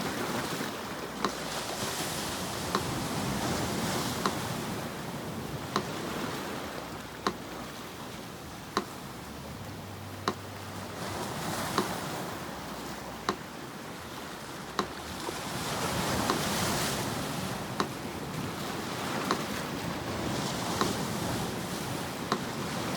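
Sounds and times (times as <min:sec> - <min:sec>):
sea surf washing: 0:00.0 - 0:22.9
metronome ticking: 0:01.0 - 0:01.6, 0:02.6 - 0:18.4, 0:19.1 - 0:22.6.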